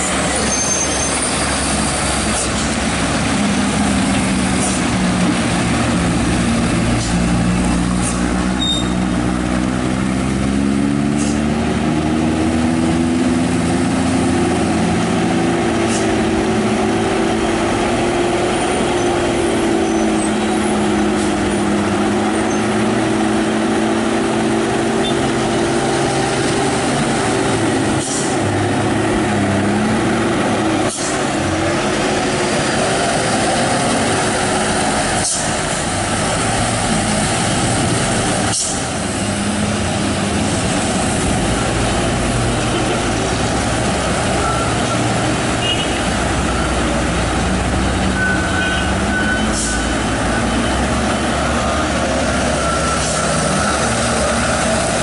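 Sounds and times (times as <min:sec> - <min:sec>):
diesel trucks driving past: 0:00.0 - 0:55.0
tyres on wet road: 0:00.0 - 0:55.0.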